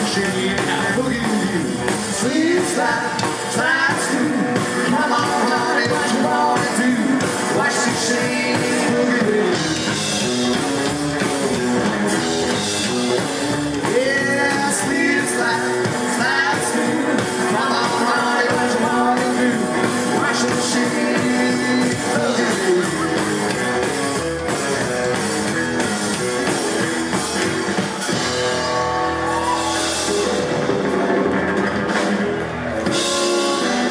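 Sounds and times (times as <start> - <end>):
drum kit: 0.0 - 33.9
electric guitar: 0.0 - 33.9
upright double bass: 0.0 - 33.9.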